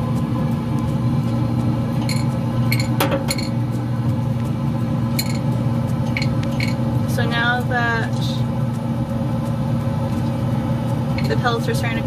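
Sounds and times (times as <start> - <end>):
grill fan and motor humming: 0.0 - 12.0.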